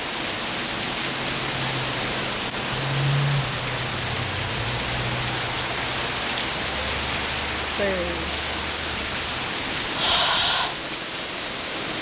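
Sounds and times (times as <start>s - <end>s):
heavy rain in strong wind: 0.0s - 12.0s.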